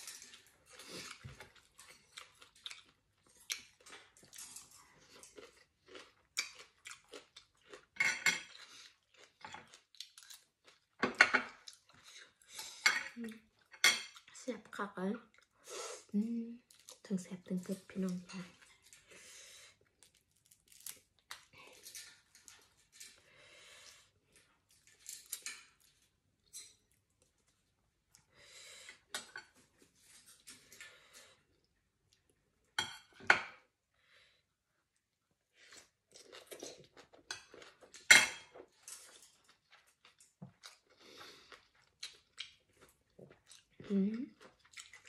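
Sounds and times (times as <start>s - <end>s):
soft chewing: 0.0s - 14.4s, 15.2s - 33.1s, 34.2s - 45.0s.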